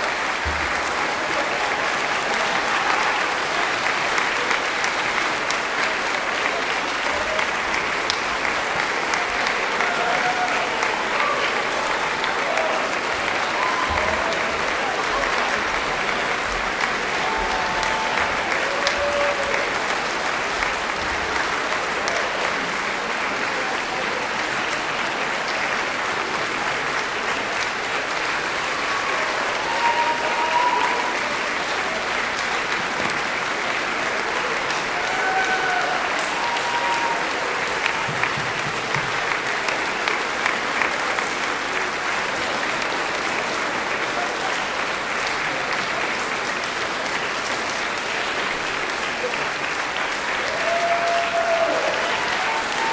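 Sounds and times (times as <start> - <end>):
audience applauding: 0.0 - 52.9.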